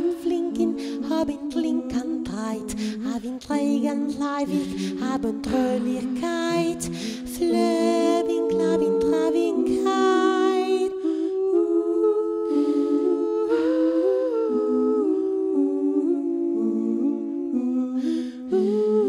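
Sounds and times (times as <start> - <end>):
voices humming in harmony: 0.0 - 19.0.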